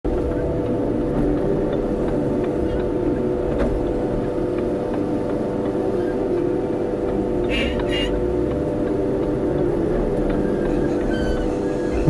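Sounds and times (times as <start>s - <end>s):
excavator diesel engine running: 0.1s - 12.0s.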